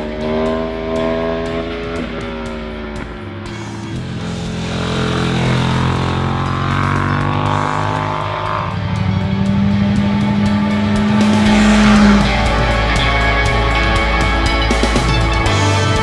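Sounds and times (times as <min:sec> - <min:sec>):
motorcycle engines running hard: 0:00.0 - 0:16.0
rock music: 0:00.0 - 0:16.0.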